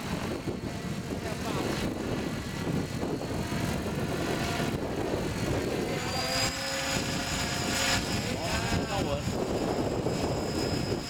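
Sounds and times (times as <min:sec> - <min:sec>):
model helicopter rotor noise: 0:00.0 - 0:11.0
strong wind buffeting: 0:00.0 - 0:11.0.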